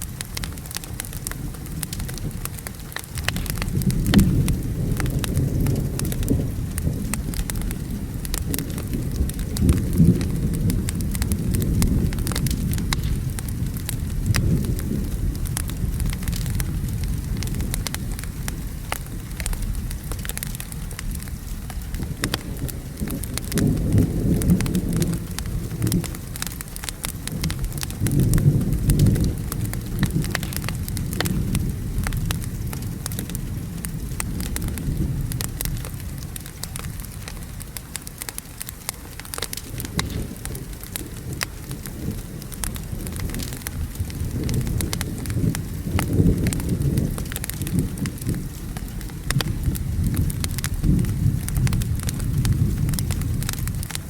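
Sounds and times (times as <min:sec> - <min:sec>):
rolling thunder: 0:00.0 - 0:37.6, 0:39.3 - 0:54.0
steady rain: 0:00.0 - 0:54.0
wood fire crackling and popping: 0:00.0 - 0:54.0.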